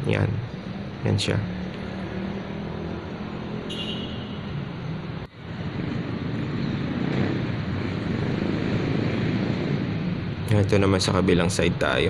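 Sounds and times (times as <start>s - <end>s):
vehicle traffic hum: 0.0s - 12.0s.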